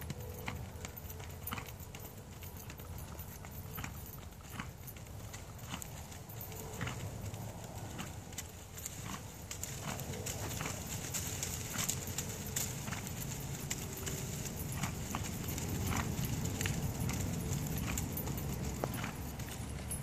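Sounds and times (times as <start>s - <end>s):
hoofbeats on sand: 0.0s - 20.0s.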